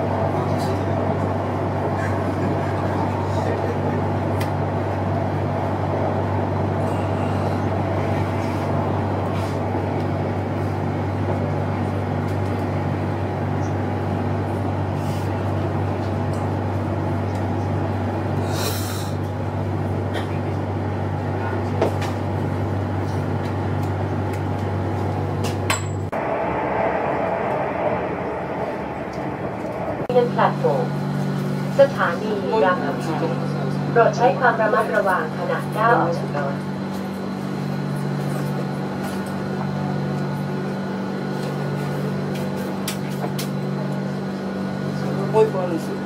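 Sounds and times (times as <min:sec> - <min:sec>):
train car hum and rumble: 0:00.0 - 0:46.0.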